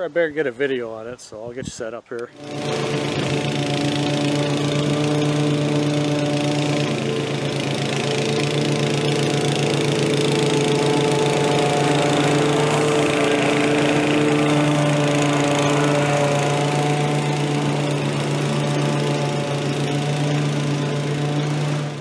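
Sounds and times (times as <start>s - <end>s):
lawn mower engine running: 2.3s - 22.0s.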